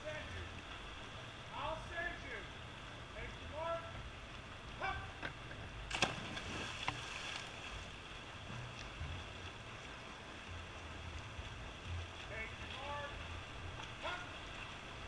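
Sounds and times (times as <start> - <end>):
pool water lapping and splashing: 0.0 - 15.0.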